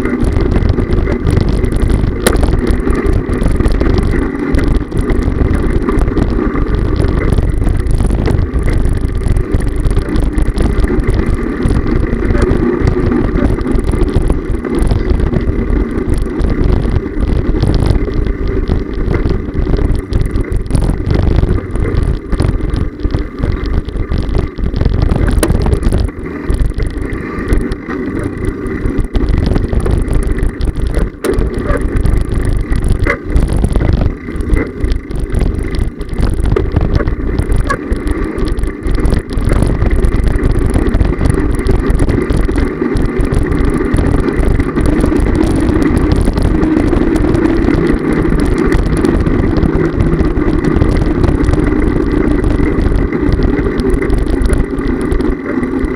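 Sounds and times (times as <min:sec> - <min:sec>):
wheels rolling on pavement: 0:00.0 - 0:55.9
wind buffeting microphone: 0:00.0 - 0:55.9.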